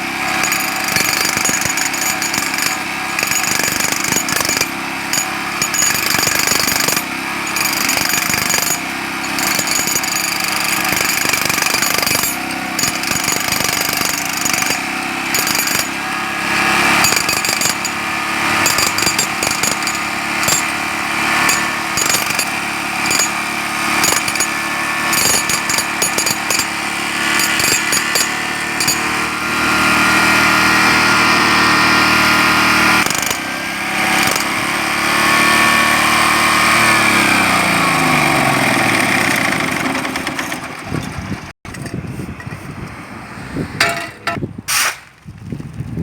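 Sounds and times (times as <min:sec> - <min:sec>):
jackhammer hammering: 0:00.0 - 0:41.6
engine running: 0:00.0 - 0:44.4.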